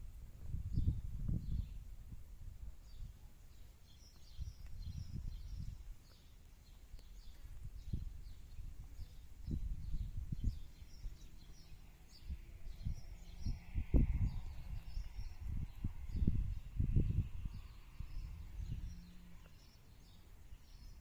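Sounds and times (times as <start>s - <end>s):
wind buffeting microphone: 0.0s - 21.0s
small birds chirping: 0.7s - 2.0s, 2.6s - 21.0s.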